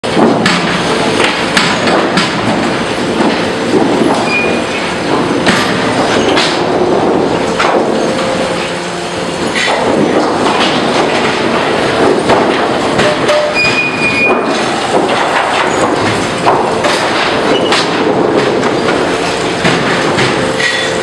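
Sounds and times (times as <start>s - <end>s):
boards knocking: 0.0s - 8.2s, 9.5s - 20.8s
conveyors clattering: 0.0s - 21.0s.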